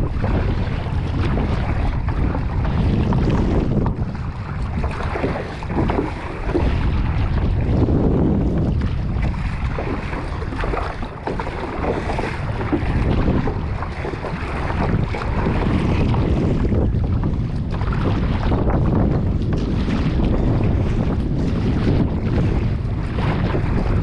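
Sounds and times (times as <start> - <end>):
water lapping around boat: 0.0 - 24.0
wind buffeting microphone: 0.0 - 24.0.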